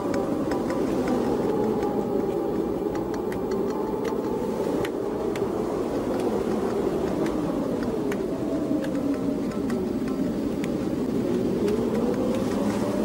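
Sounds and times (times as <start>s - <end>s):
faint scattered clicks: 0.0s - 13.0s.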